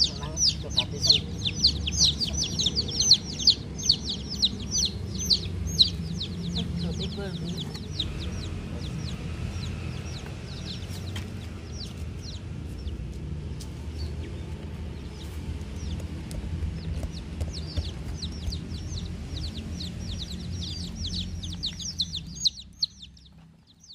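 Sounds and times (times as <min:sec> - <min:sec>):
baby chicks peeping: 0:00.0 - 0:23.9
steady low hum: 0:00.0 - 0:23.9.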